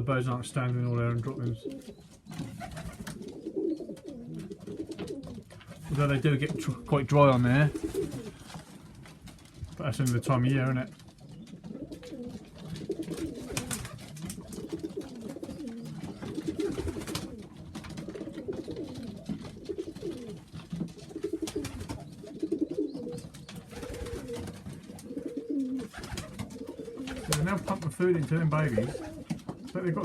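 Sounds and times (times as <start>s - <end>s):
pigeons cooing: 0.0s - 9.6s, 11.0s - 30.0s.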